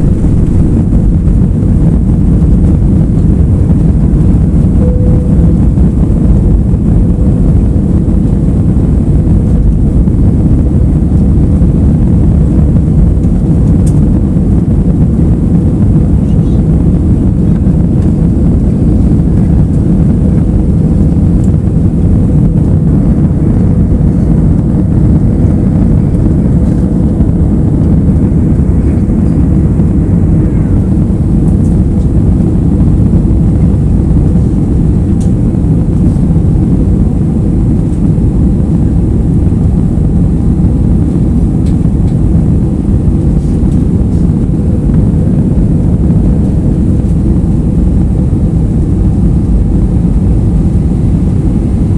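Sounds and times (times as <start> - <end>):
airliner cabin drone: 0.0 - 51.9.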